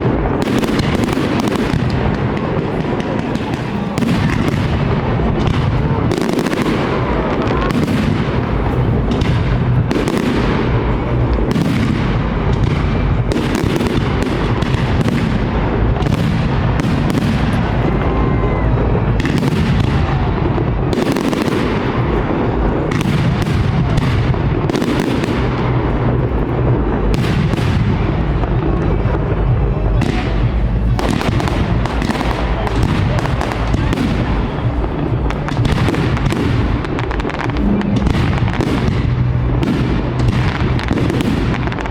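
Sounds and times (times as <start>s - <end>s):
low rumble: 1.3s - 41.9s.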